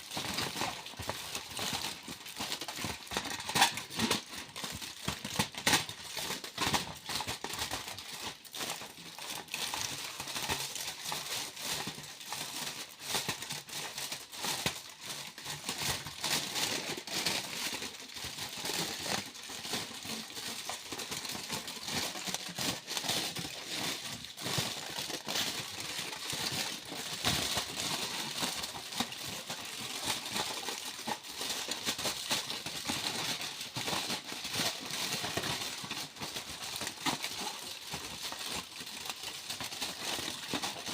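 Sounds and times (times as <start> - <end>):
foil crumpling by hand: 0.0 - 40.9.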